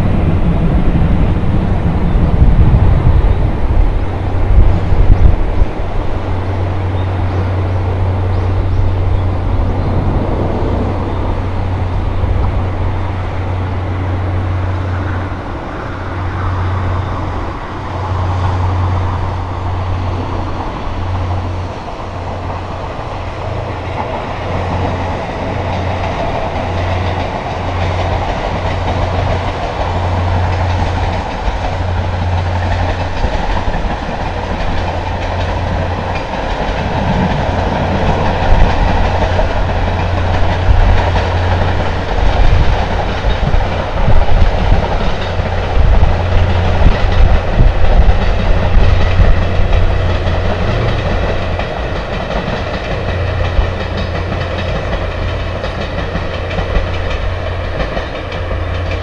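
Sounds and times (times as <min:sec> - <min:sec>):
steam train passing: 0:00.0 - 0:59.0.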